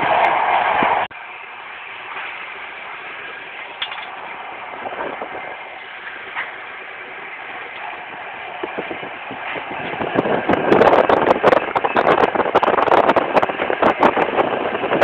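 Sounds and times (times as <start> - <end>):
train interior rushing noise: 0.0 - 15.0.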